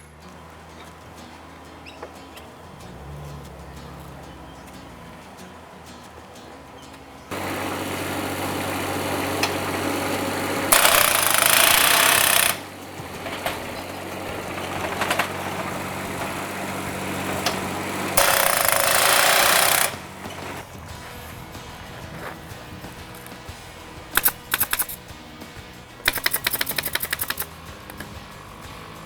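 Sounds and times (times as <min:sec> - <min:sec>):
machine engine running: 0:00.0 - 0:29.0
rapid powered hammering: 0:00.0 - 0:29.0.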